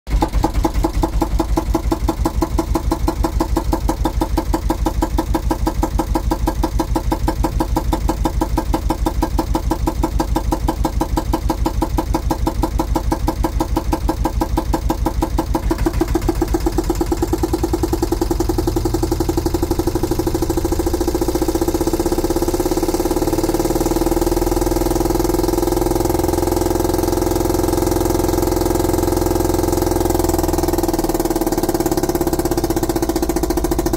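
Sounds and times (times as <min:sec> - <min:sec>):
single-cylinder diesel engine running: 0:00.1 - 0:33.9.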